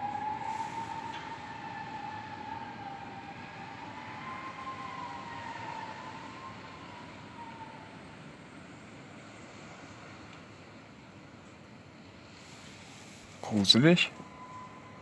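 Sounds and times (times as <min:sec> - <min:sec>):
wind hiss: 0:00.0 - 0:15.0.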